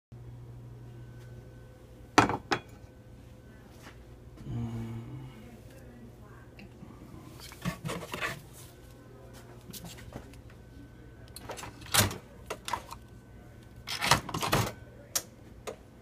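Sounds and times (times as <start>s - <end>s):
faint steady hum: 0.2s - 16.0s.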